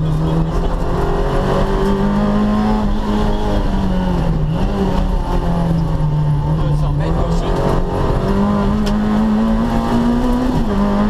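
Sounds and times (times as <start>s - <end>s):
car engine accelerating hard: 0.0s - 11.0s
road and tyre rumble: 0.0s - 11.0s.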